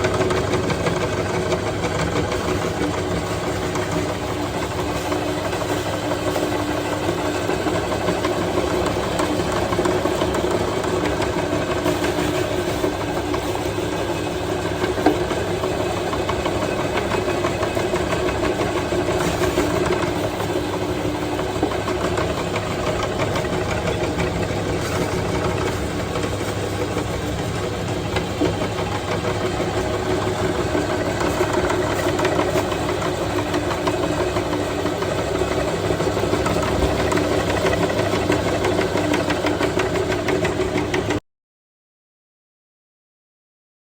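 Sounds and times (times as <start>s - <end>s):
meat grinder motor running: 0.0s - 41.2s.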